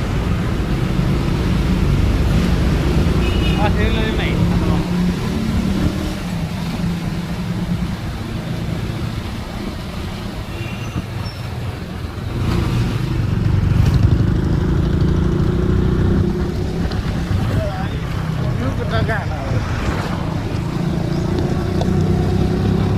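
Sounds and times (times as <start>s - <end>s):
vehicle passing close by: 0.0s - 10.5s, 12.3s - 22.9s
road traffic rumbling: 0.0s - 22.9s.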